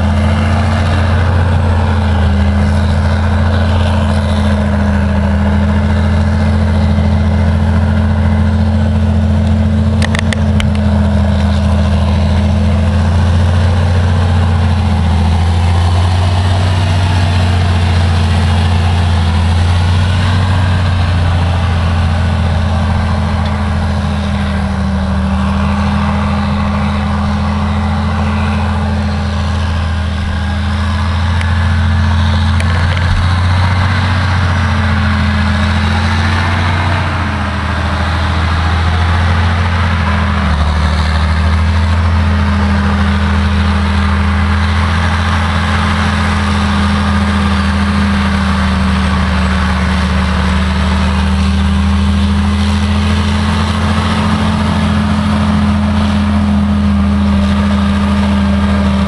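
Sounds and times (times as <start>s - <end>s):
diesel engine droning under load: 0.0s - 59.0s.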